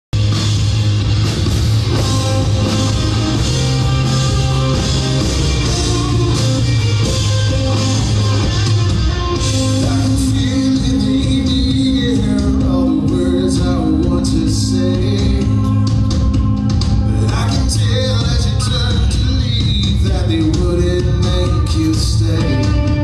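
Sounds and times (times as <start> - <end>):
drum kit: 0.1 - 23.0
electric guitars: 0.2 - 23.0.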